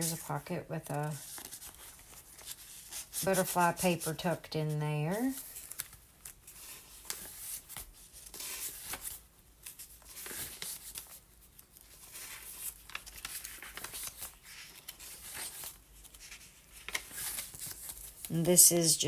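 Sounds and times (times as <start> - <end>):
paper rustling and crinkling: 0.0 - 4.4, 5.0 - 18.5.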